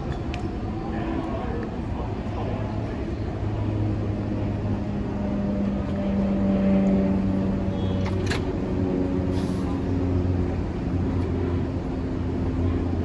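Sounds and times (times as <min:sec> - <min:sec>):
subway train humming and rumbling: 0:00.0 - 0:13.0.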